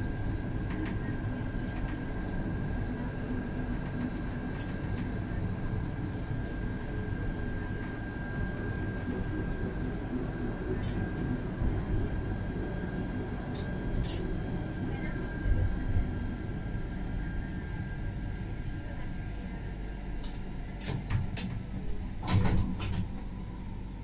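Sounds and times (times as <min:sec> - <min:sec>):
tram rumble: 0:00.0 - 0:24.0.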